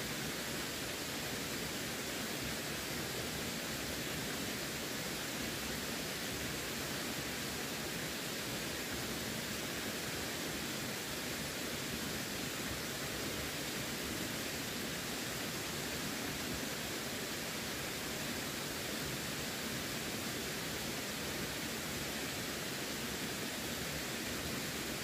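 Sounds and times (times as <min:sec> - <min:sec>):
running water rushing: 0:00.0 - 0:25.0.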